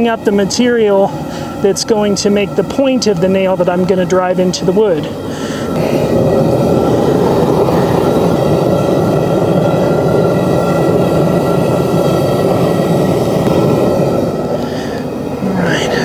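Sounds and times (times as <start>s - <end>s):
forge burner flame rushing: 0.0s - 16.0s.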